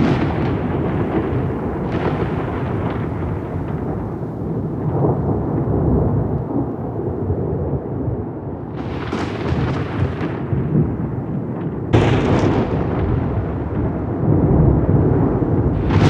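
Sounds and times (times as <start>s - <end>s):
crackling thunder peal: 0.0s - 16.0s
sharp thunderclap: 0.0s - 16.0s
thunder rumbling: 0.0s - 16.0s.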